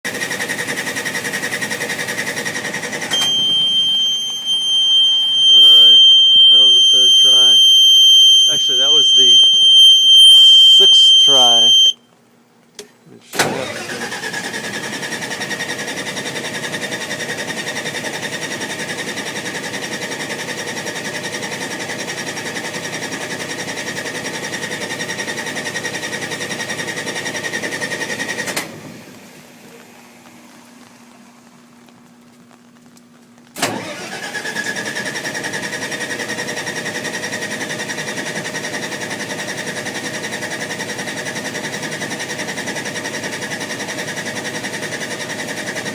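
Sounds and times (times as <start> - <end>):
generator starter cranking: 0.1 - 11.9, 12.8 - 28.9, 33.6 - 45.9.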